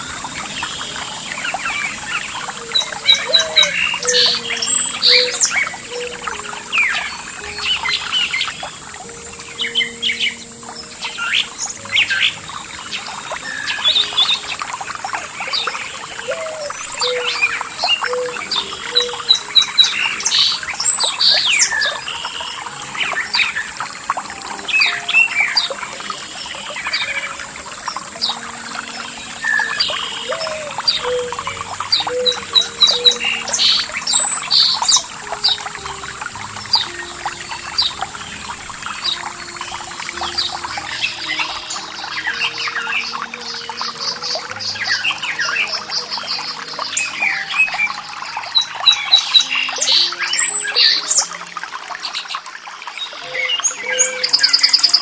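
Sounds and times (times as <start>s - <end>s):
running water hiss: 0.0s - 55.0s
songbirds chirping and singing: 0.0s - 55.0s.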